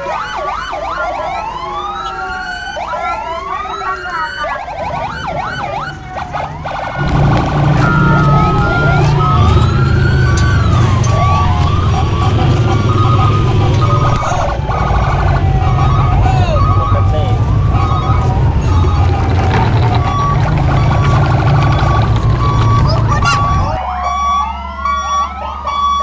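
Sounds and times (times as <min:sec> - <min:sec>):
electronic siren wails: 0:00.0 - 0:26.0.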